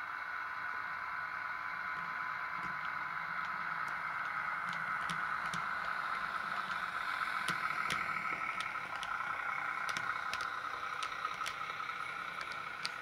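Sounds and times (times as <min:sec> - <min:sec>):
model train whirring hum: 0:00.0 - 0:13.0
wheels clicking over rail joints: 0:00.0 - 0:13.0.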